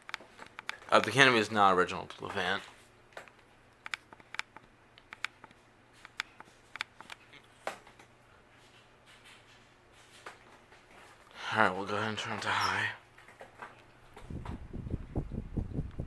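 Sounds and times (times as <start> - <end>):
ceiling fan humming: 0.0 - 16.0.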